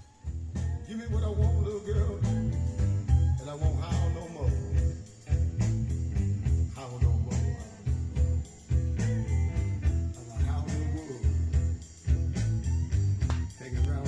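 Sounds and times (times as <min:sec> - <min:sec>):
blues rock song with guitar: 0:00.0 - 0:14.0.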